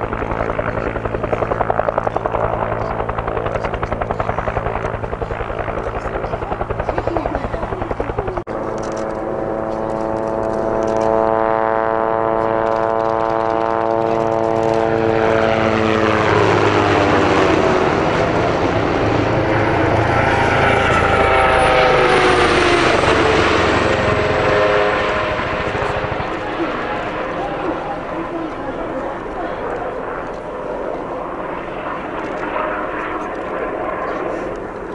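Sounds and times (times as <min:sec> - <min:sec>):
helicopter rotor beat: 0:00.0 - 0:34.9
helicopter turbine tones: 0:00.0 - 0:34.9.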